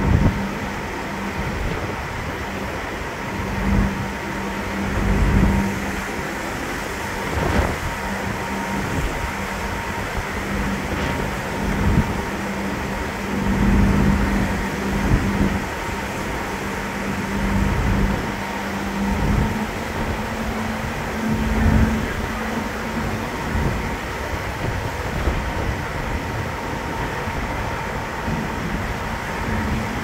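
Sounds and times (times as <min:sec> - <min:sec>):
ferry engines humming: 0:00.0 - 0:30.0
wind buffeting microphone: 0:00.0 - 0:30.0.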